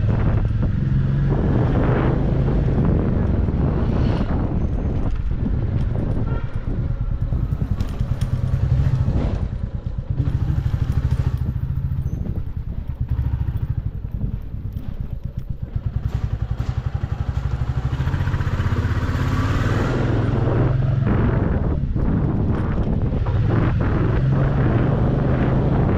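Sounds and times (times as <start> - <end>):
motorcycle engine running: 0.0 - 25.9
wind rushing over microphone: 0.0 - 25.9.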